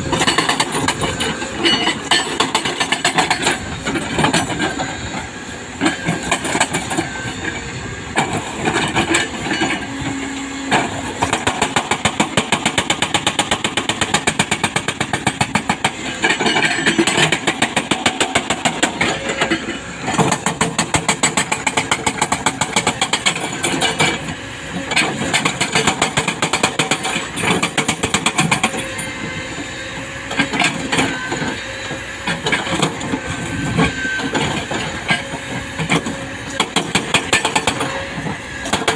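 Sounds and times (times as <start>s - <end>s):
excavator engine running: 0.0s - 38.9s
hydraulic breaker hammering rock: 0.0s - 38.9s.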